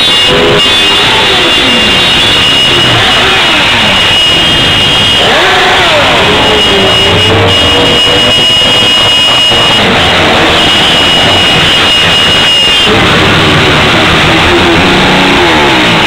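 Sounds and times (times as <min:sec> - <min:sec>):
loud high tone: 0:00.0 - 0:16.0
motorcycle engines revving: 0:00.0 - 0:16.0.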